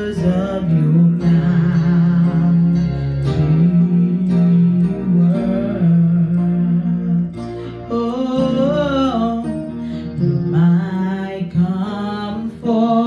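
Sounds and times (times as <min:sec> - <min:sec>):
acoustic guitar: 0:00.0 - 0:13.0
person singing: 0:00.0 - 0:13.0.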